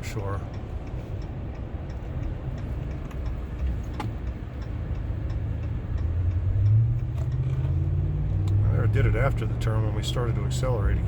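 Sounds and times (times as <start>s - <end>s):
faint ticking: 0.0s - 10.9s
engine and road rumble: 0.0s - 11.0s.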